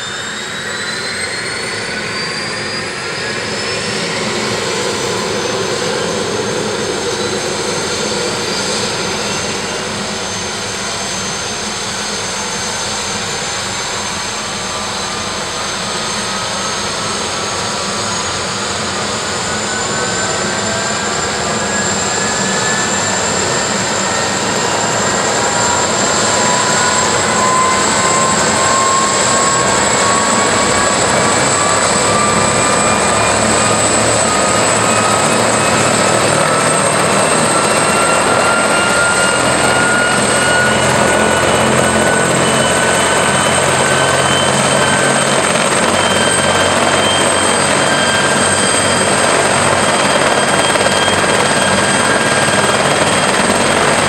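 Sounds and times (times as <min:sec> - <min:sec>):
helicopter turbine whine: 0:00.0 - 0:54.0.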